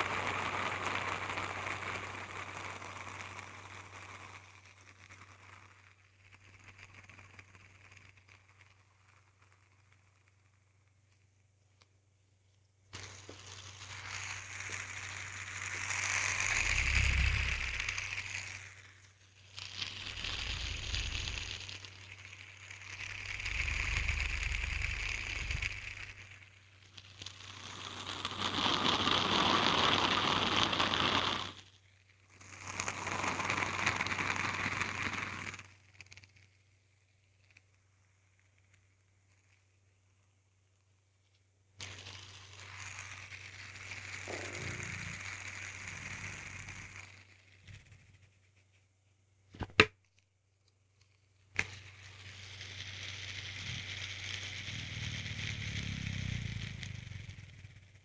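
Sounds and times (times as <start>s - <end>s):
hand spinner whirring: 0.0s - 11.2s, 12.9s - 36.6s, 41.8s - 49.0s, 51.0s - 58.0s.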